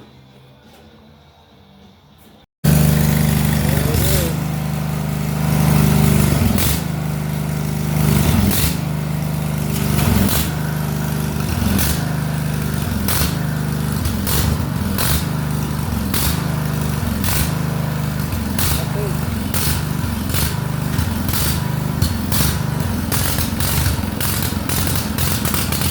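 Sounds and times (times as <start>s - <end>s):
engine pops: 2.6s - 25.9s
lawn tractor engine running unevenly: 2.6s - 25.9s.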